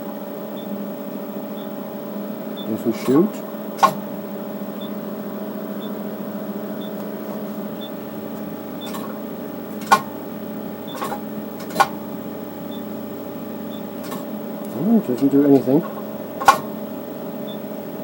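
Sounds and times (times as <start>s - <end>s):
laser unit humming: 0.0s - 18.0s.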